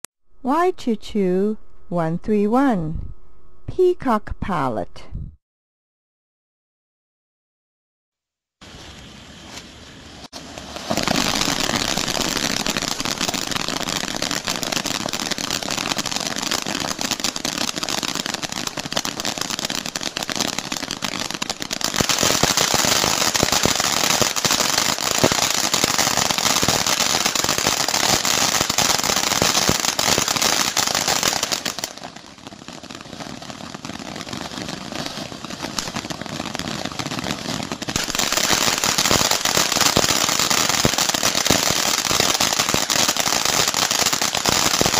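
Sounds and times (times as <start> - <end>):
fireworks fountain hissing and crackling: 8.6 - 44.9.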